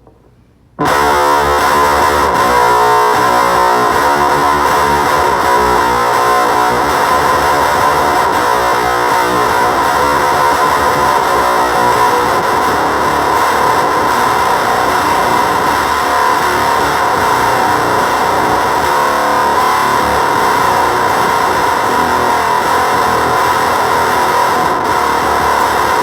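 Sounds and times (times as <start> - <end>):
fuzz guitar: 0.8 - 26.0.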